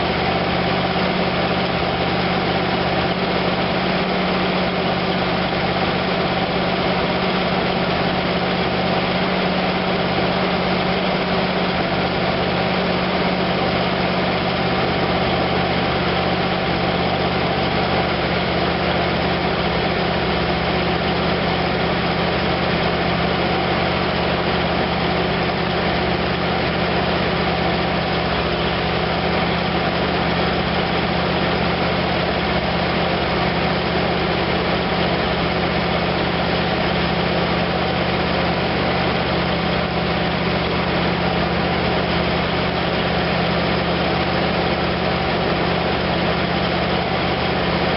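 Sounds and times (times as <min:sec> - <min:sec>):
engine running at fast idle: 0:00.0 - 0:47.9.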